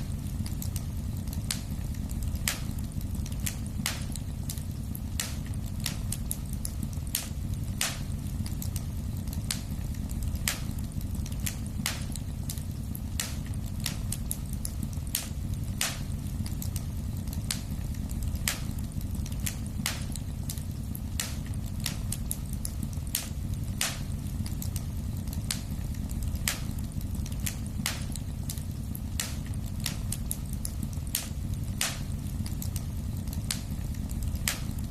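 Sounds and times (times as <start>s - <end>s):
fire crackling and popping: 0.0s - 34.9s
fire flames rumbling: 0.0s - 34.9s.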